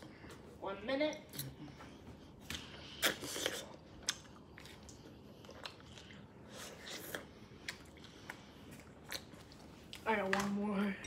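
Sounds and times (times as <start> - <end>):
wet chewing and lip-smacking: 1.3 - 10.6.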